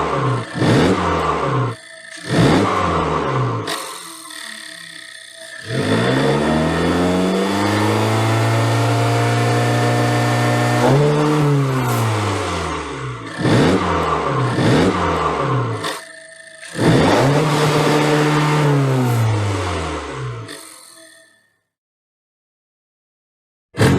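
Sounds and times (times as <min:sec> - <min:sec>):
car engine revving: 0:00.0 - 0:20.6.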